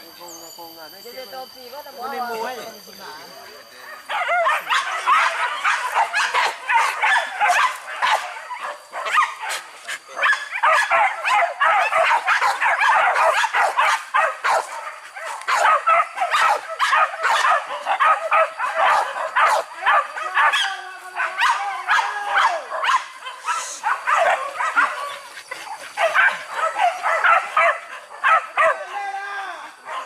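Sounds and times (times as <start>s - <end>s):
dog howling: 3.8s - 9.4s, 10.1s - 30.0s
dogs baying and barking: 3.8s - 29.0s, 29.6s - 30.0s.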